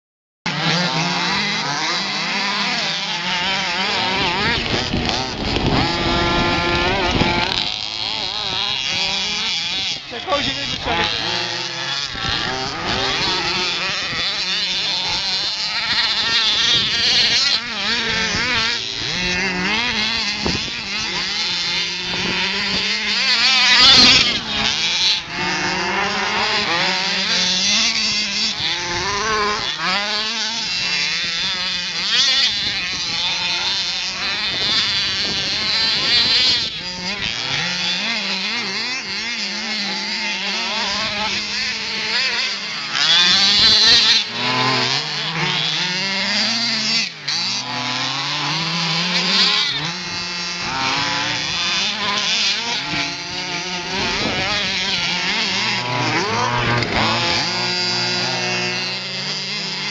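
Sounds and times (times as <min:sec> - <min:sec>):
small two-stroke engine revving: 0:00.5 - 0:59.9.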